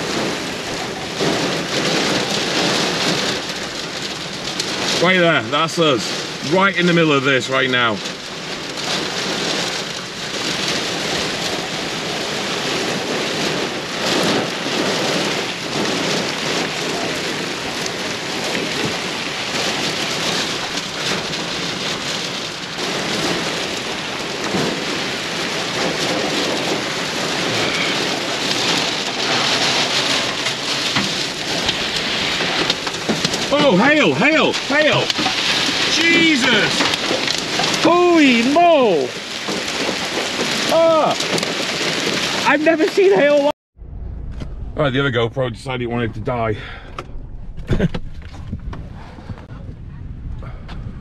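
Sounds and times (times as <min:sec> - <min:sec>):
heavy rain pouring: 0:00.0 - 0:50.3.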